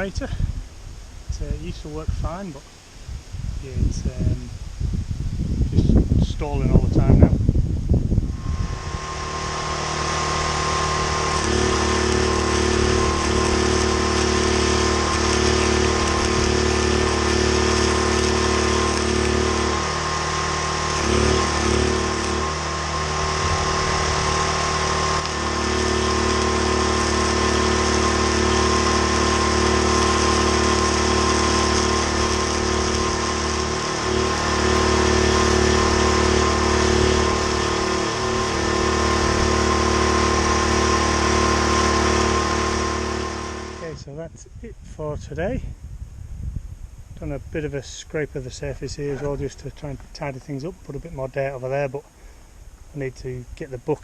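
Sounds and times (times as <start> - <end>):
generator engine running: 6.7 - 44.4, 47.3 - 54.0.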